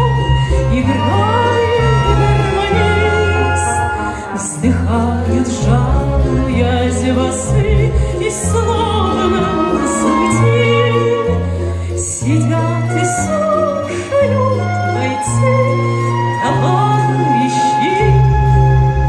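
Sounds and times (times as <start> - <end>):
woman singing with vibrato: 0.0 - 18.4.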